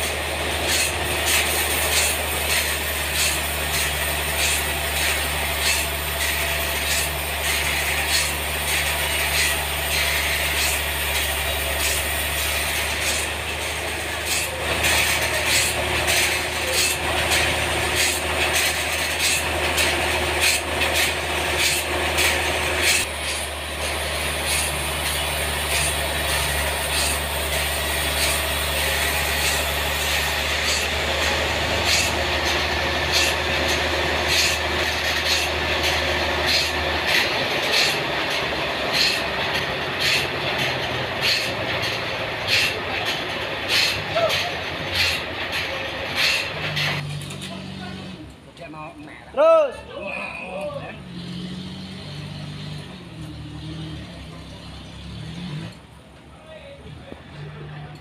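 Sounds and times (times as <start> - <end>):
low engine drone: 0.0 - 48.4.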